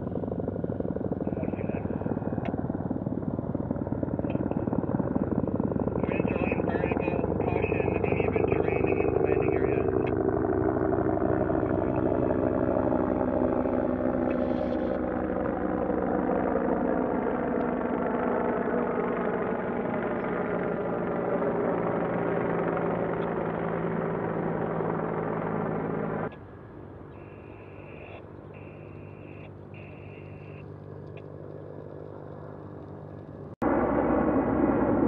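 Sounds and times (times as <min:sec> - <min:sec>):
helicopter drone: 0:00.0 - 0:35.0.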